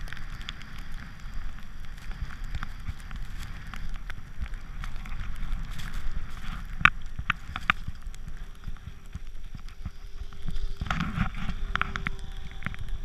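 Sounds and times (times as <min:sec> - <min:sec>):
faint steady hum: 0:00.0 - 0:13.0
snow scraping under rider: 0:00.0 - 0:13.0
wind on microphone: 0:00.0 - 0:13.0.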